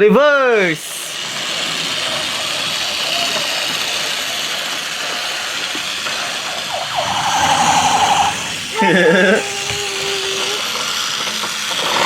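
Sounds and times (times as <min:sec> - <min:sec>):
toy train motor whirring: 0:00.2 - 0:12.0.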